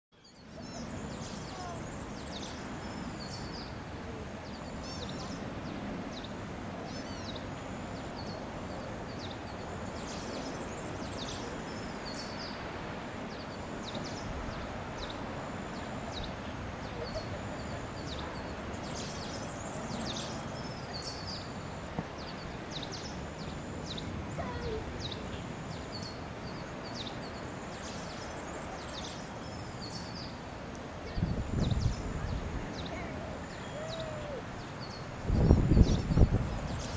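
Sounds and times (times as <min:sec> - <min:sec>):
outdoor background noise: 0:00.1 - 0:36.9.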